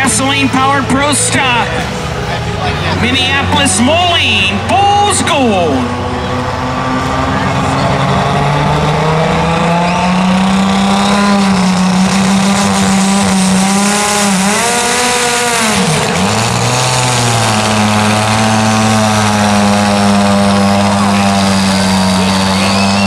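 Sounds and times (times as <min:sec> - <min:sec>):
tractor engine high-revving: 0:00.0 - 0:23.0.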